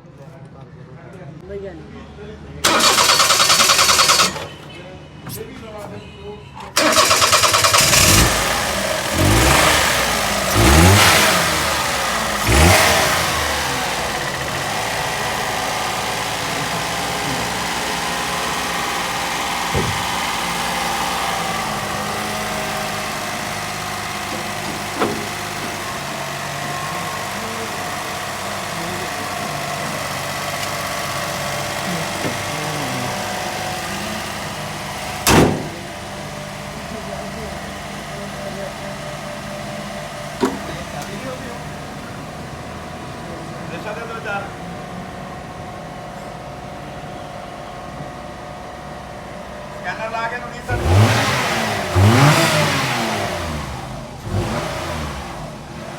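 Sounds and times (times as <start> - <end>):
car engine revving and idling: 2.6 - 4.6, 6.7 - 55.9.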